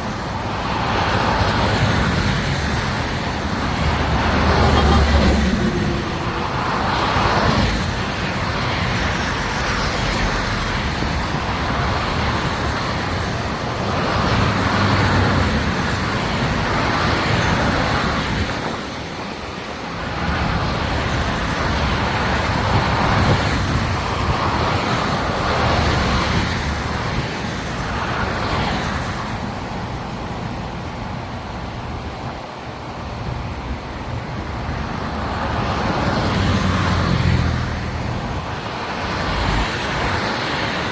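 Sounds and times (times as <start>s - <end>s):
highway traffic: 0.0s - 40.9s.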